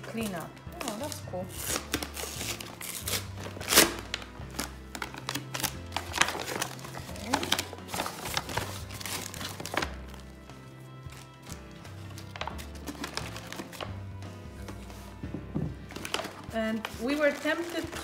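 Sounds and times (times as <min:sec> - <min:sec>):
paper bag rustling and tearing: 0:00.0 - 0:10.3, 0:11.0 - 0:14.0, 0:15.9 - 0:18.0
plastic packages shifting: 0:00.0 - 0:10.4, 0:11.1 - 0:14.0, 0:14.7 - 0:18.0
background music: 0:00.0 - 0:18.0.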